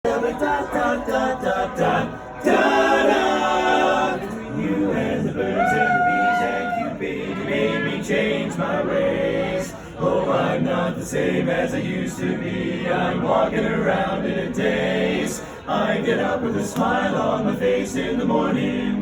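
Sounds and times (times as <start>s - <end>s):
a cappella harmony singing: 0.0s - 19.0s.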